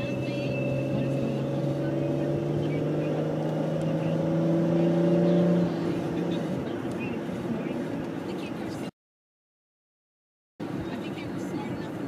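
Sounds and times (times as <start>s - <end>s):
car engine and road noise: 0.0s - 9.0s, 10.6s - 12.0s.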